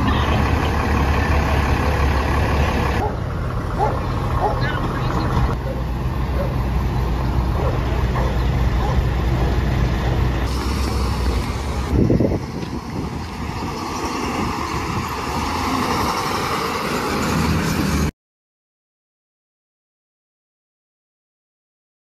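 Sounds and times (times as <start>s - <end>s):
emergency vehicle engines: 0.0s - 18.1s
truck passing close by: 0.0s - 18.1s.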